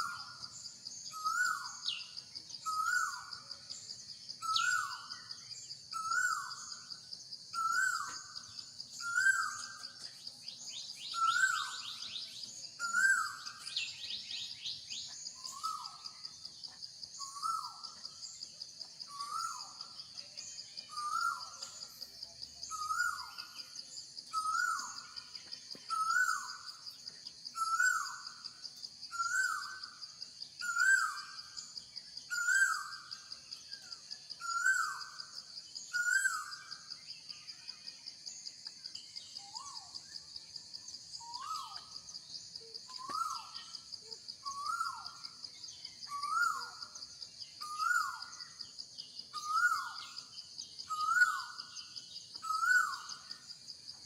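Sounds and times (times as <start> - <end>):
insects buzzing: 0.0 - 37.3, 38.2 - 54.0.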